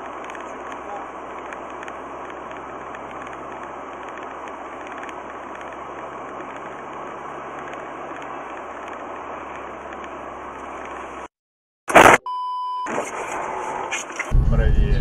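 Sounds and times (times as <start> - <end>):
car engine and road noise: 0.0 - 11.3, 12.8 - 15.0.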